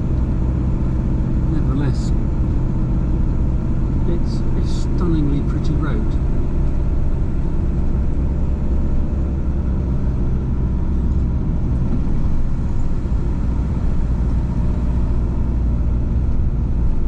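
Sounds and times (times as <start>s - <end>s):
low engine hum: 0.0s - 17.0s
road and tyre rumble: 0.0s - 17.0s.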